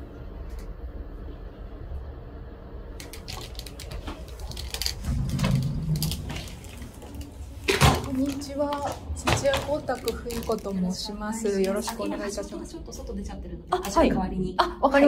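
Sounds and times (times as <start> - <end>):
elevator car rumbling: 0.0 - 14.2.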